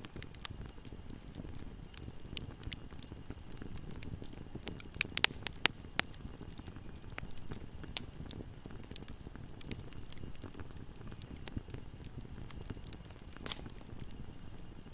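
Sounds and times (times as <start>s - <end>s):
campfire flames rumbling: 0.0s - 14.9s
fire crackling and popping: 0.0s - 14.9s.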